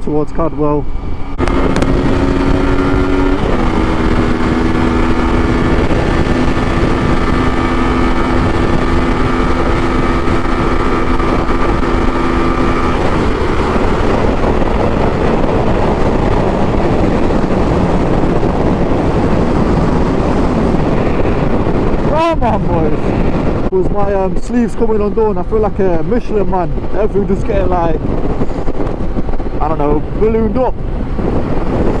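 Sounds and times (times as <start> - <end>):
wind rushing: 0.0 - 32.0
motorcycle engine cruising: 0.8 - 32.0.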